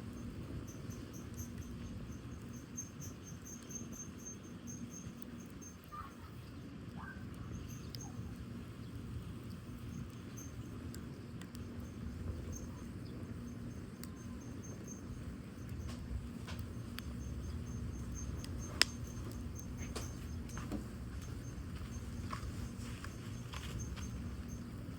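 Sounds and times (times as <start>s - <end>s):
crickets chirping: 0.0s - 6.3s, 7.4s - 24.9s
fire crackles: 0.0s - 24.9s
wood fire burning: 0.0s - 24.9s.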